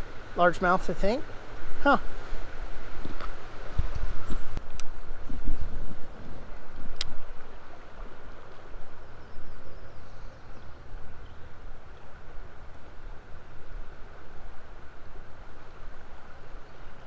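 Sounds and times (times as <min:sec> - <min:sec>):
river water flowing: 0:00.0 - 0:17.0
wind rumble on microphone: 0:00.0 - 0:17.0.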